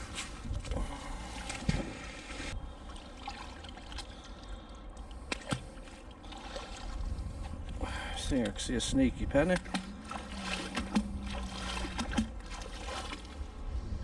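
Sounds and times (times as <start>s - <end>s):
water trickling and sloshing: 0.0s - 14.0s.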